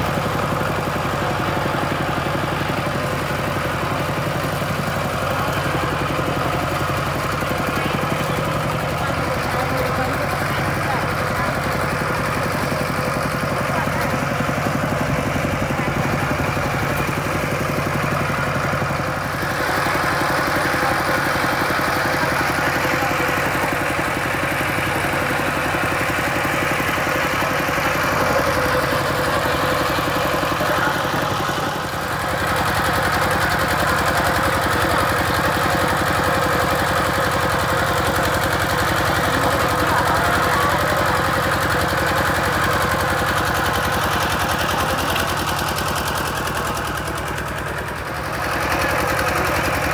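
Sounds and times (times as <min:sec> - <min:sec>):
diesel engine chugging: 0:00.0 - 0:49.9.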